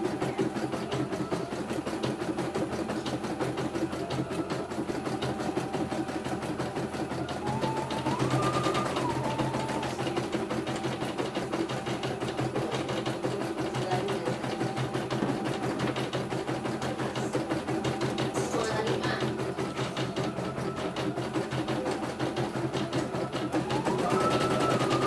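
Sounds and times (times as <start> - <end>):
embroidery machine stitching: 0.0 - 25.0.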